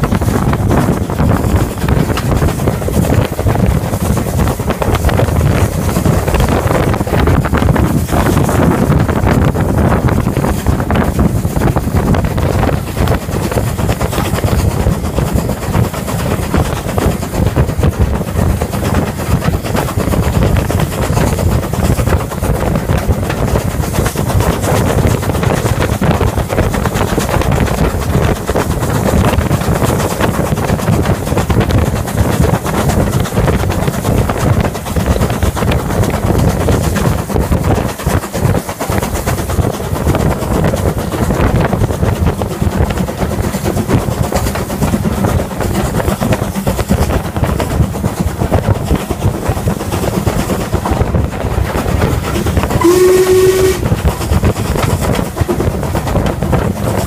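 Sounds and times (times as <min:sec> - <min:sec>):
steam train running rumble: 0:00.0 - 0:57.0
wind buffeting the microphone: 0:00.0 - 0:57.0.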